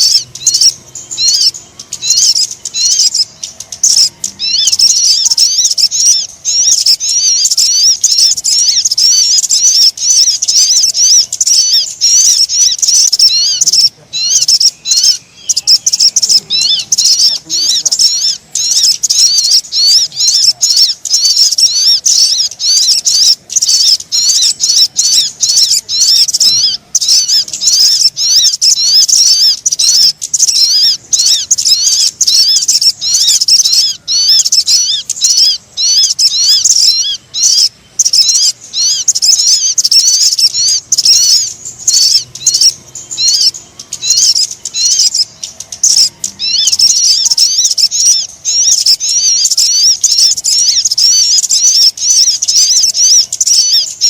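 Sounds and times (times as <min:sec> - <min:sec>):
high-pitched bird lure chirps: 0:00.0 - 0:54.0.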